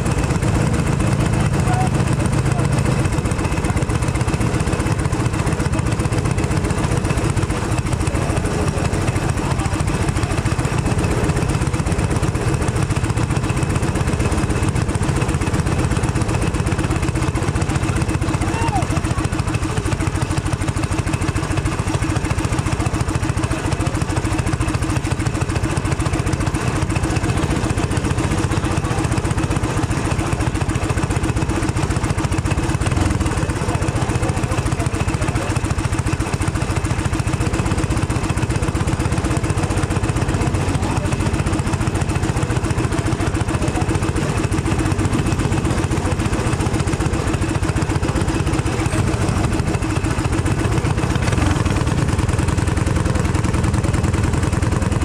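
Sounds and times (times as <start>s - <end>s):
kart engine idling: 0.0s - 55.0s.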